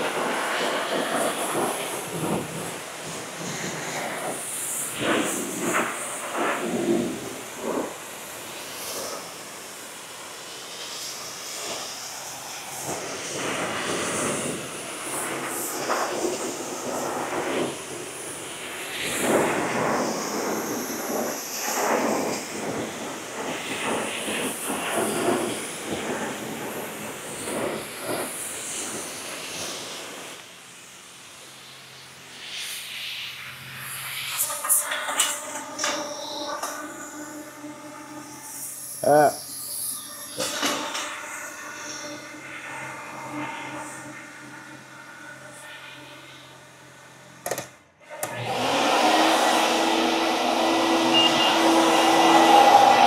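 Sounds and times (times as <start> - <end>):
pressure washer spraying water: 0.0 - 37.8, 48.3 - 53.0.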